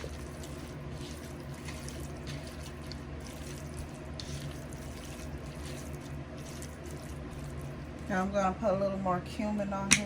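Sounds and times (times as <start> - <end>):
wet squishing of raw chicken: 0.0 - 8.1.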